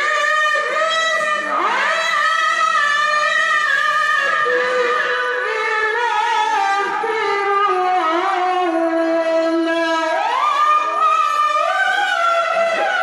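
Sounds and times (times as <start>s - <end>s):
man reciting in ornamented notes: 0.1s - 13.0s.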